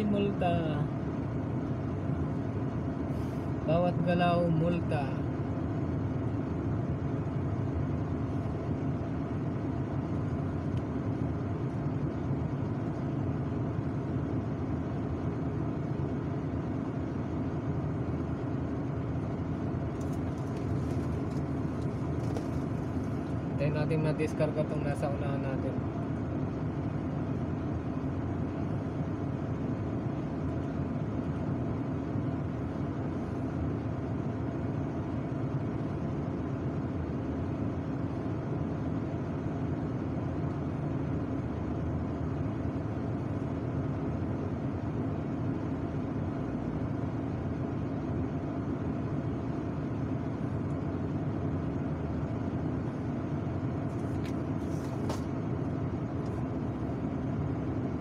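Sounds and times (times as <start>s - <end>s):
diesel engine drone in truck cab: 0.0s - 58.0s.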